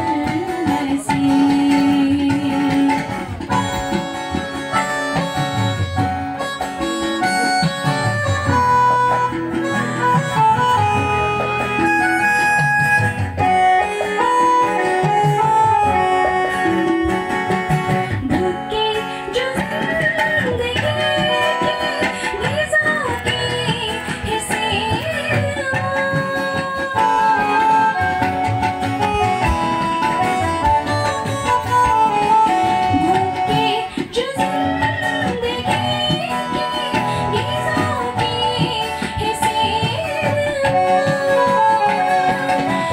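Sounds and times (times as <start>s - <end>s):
electronic keyboard melody: 2.6s - 19.6s, 25.3s - 42.9s.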